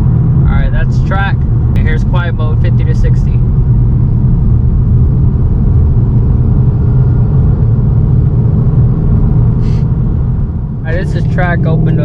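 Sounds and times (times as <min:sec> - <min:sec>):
car exhaust rumbling: 0:00.0 - 0:12.0.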